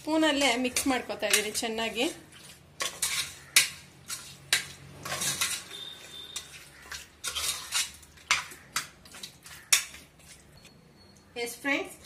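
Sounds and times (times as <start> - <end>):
chicken mixed in a metal pot: 0.0 - 12.0.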